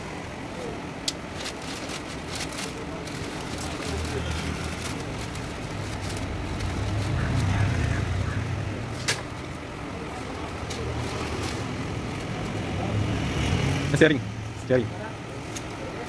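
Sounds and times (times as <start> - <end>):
low mechanical rumble: 0.0 - 13.3.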